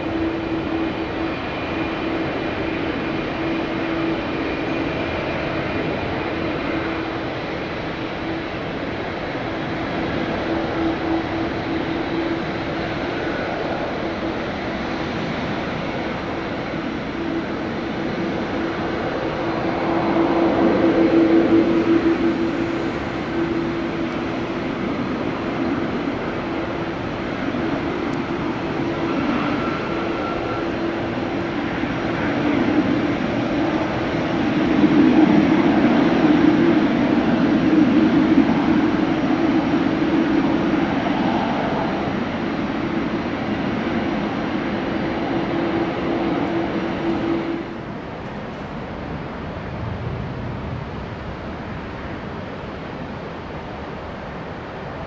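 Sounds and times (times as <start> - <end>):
constant hum: 0.0 - 55.0
jet engines roaring: 0.0 - 55.0.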